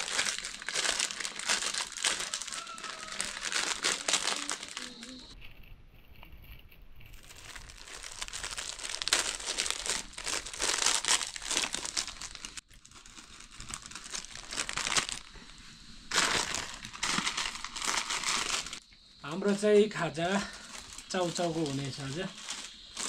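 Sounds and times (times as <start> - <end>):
plastic packets crinkling: 0.0 - 5.4, 7.1 - 18.8, 20.3 - 23.0.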